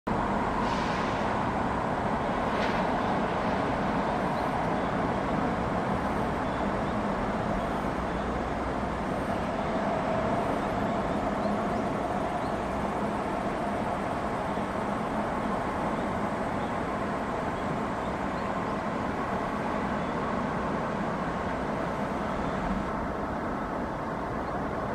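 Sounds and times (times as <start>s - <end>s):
river rushing in flood: 0.1s - 24.9s.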